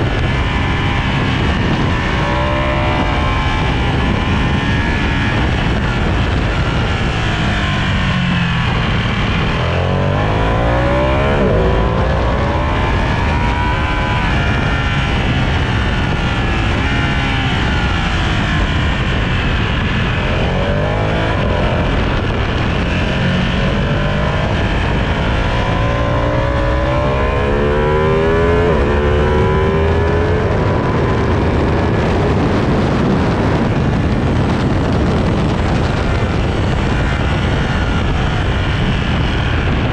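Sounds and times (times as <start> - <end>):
heavy rush of noise: 0.0 - 39.9
motorcycle engine accelerating: 0.0 - 39.9.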